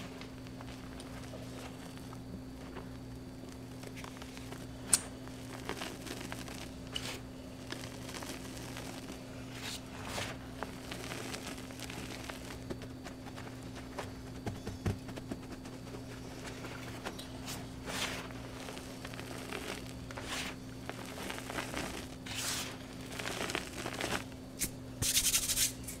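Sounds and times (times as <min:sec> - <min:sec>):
sharp crackles: 0:00.0 - 0:25.6
hands crunching powder clumps: 0:00.0 - 0:25.9
faint low hum: 0:00.0 - 0:26.0.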